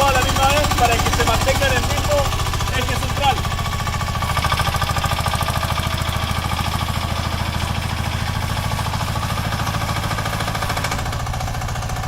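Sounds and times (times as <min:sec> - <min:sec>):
excavator engine chugging: 0:00.0 - 0:12.0.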